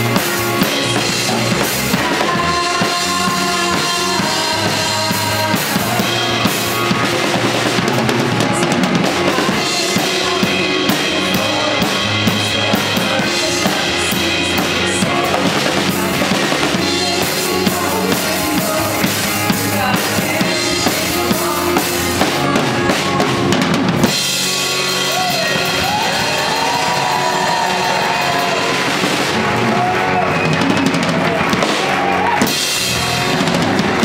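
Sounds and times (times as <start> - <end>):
live band playing pop-rock: 0.0 - 34.0.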